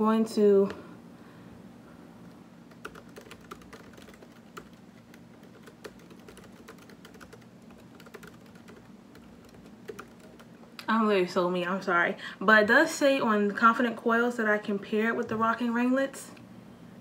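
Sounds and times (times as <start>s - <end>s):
faint low room hum: 0.0s - 17.0s.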